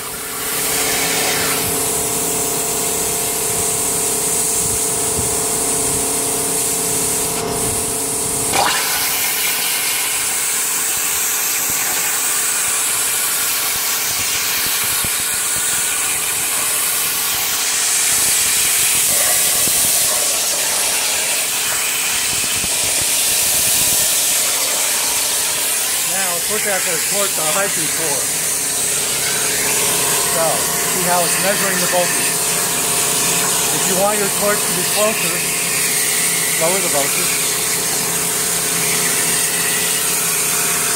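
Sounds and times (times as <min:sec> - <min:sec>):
machine whine: 0:00.0 - 0:40.9
plasma torch cutting steel: 0:00.0 - 0:40.9.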